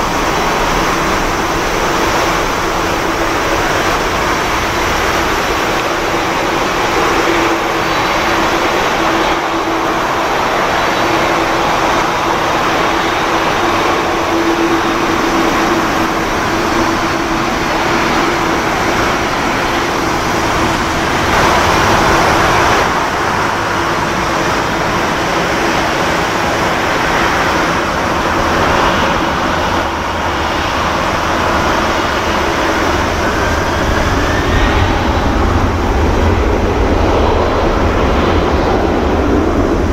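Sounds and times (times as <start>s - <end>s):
engine whine rising in pitch: 0.0s - 39.9s
jet engines running: 0.0s - 39.9s.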